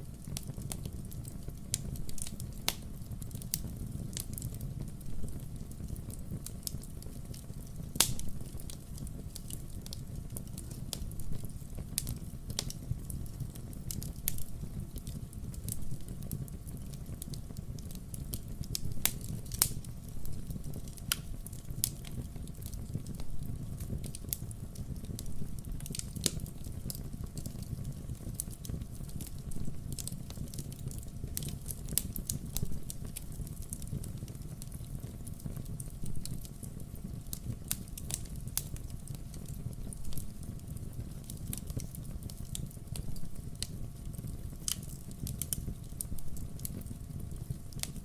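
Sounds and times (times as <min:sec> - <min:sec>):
firewood crackling and popping: 0:00.0 - 0:48.0
low fire rumble: 0:00.0 - 0:48.0.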